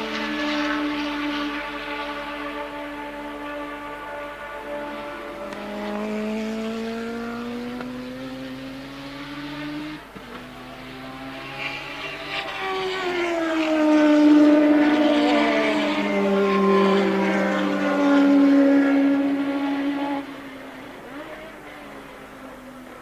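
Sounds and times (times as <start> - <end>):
race car engine at full throttle: 0.0 - 23.0
race car passing by: 0.0 - 23.0.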